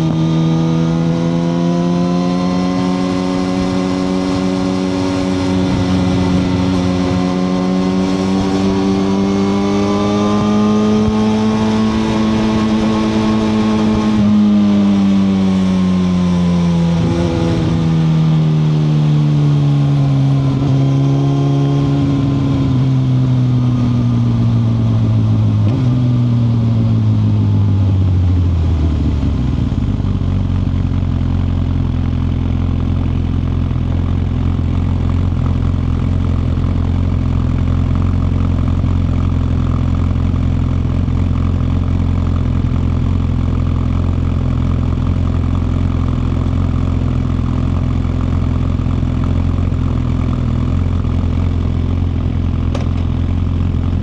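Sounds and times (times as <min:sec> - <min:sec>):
motorcycle engine decelerating to idle: 0:00.0 - 0:54.0.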